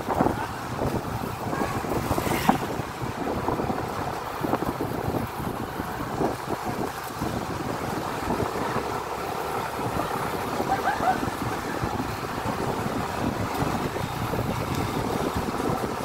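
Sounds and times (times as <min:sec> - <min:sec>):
motorcycle engines running: 0:00.0 - 0:16.0
wind buffeting microphone: 0:00.0 - 0:16.0.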